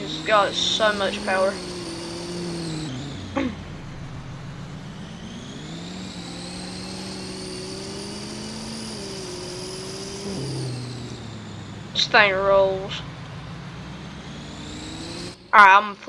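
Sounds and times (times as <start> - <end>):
high whine: 0.0 - 16.0
truck drivetrain running: 0.0 - 16.0.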